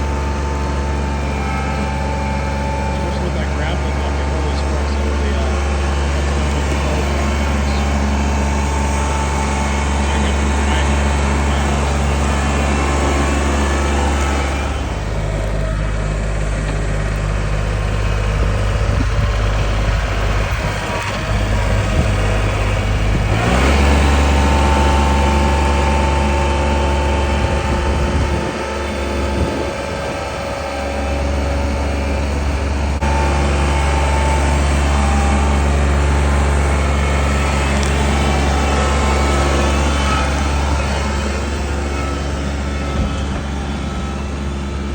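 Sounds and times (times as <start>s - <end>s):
engine humming at low speed: 0.0s - 44.9s.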